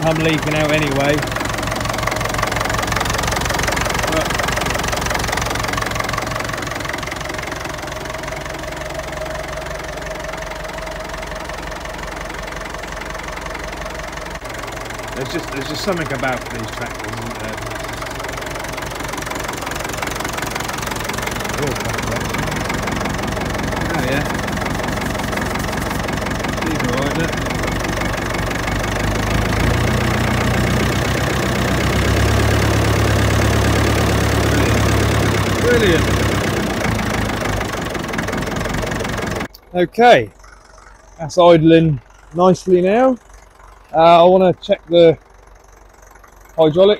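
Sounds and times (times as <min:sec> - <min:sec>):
diesel tractor engine idling: 0:00.0 - 0:46.9.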